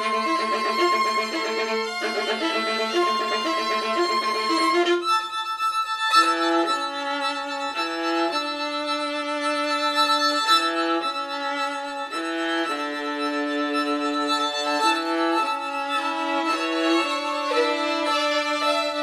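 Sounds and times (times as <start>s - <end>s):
violins playing: 0.0s - 19.0s.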